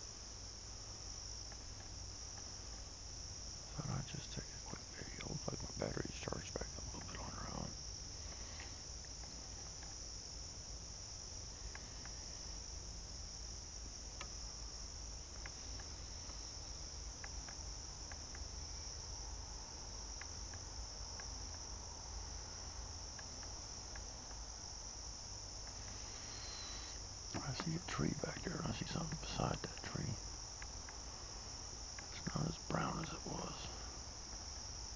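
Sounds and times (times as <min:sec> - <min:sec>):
insects trilling: 0:00.0 - 0:34.9
faint ticks: 0:01.2 - 0:02.9, 0:03.8 - 0:10.5, 0:11.5 - 0:13.0, 0:13.7 - 0:34.9.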